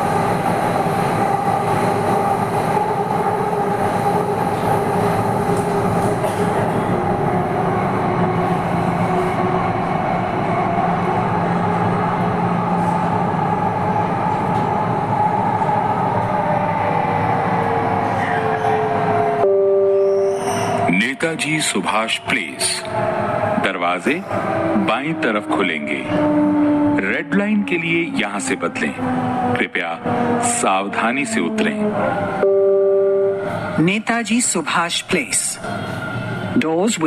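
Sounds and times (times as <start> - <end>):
wheels rumbling on track: 0.0 - 32.4.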